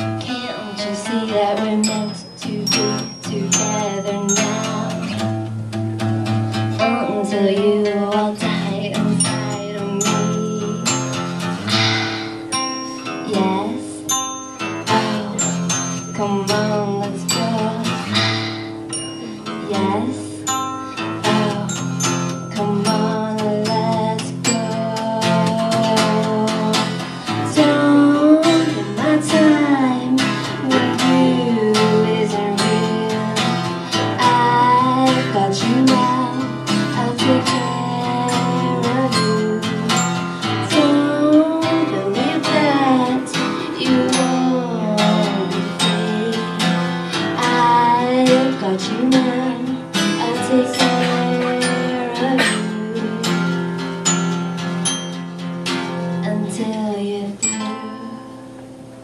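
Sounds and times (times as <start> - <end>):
sliding melody line: 0.0 - 52.2
acoustic guitar strumming: 0.0 - 59.0.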